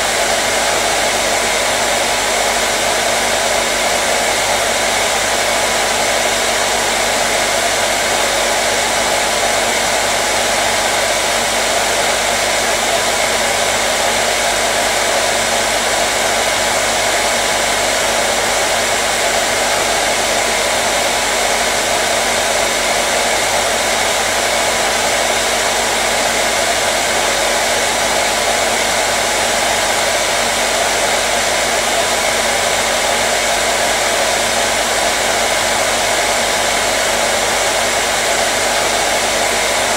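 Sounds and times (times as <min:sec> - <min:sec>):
hair dryer blowing: 0:00.0 - 0:39.9
hair dryer motor hum: 0:00.0 - 0:39.9.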